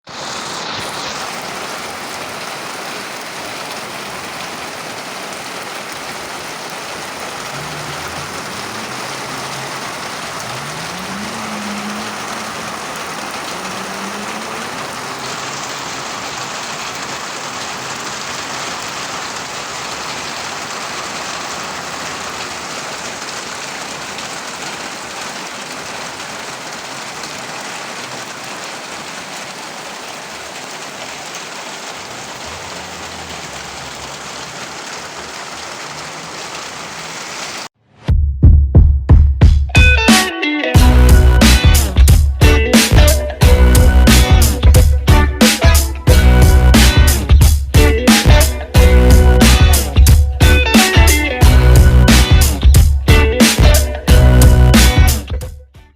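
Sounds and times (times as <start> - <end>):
steady rain falling: 0.0 - 37.8, 39.7 - 55.5.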